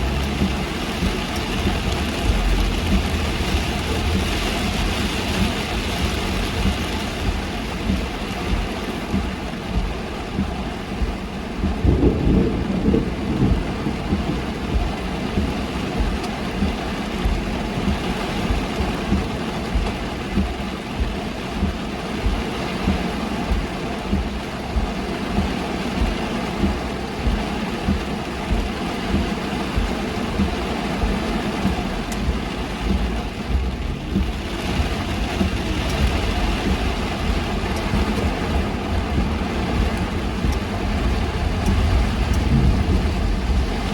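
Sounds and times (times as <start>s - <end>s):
heavy rain drumming on a car: 0.0s - 43.9s
low rumble: 0.0s - 43.9s
regular thump: 0.0s - 43.9s.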